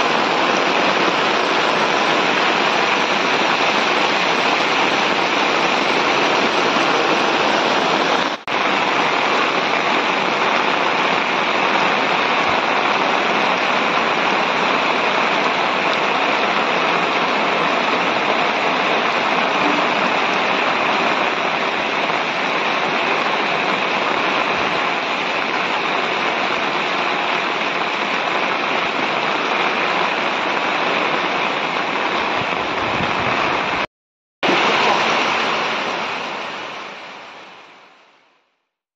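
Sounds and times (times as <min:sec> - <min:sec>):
runoff water rushing: 0:00.0 - 0:38.4
heavy rain: 0:00.0 - 0:38.6.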